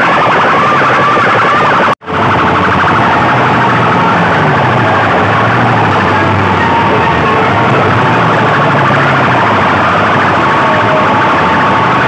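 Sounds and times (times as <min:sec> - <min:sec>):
loudspeakers blaring siren wail: 0:00.0 - 0:12.0.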